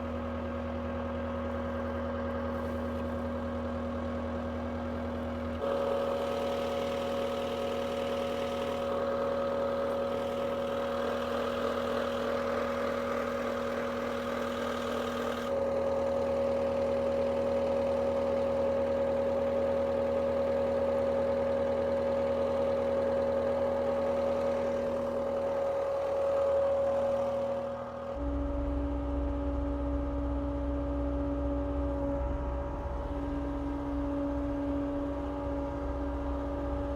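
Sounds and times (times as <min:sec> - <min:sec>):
steady mechanical whine: 0:00.0 - 0:18.4, 0:21.2 - 0:36.9
diesel engine running: 0:00.0 - 0:36.9.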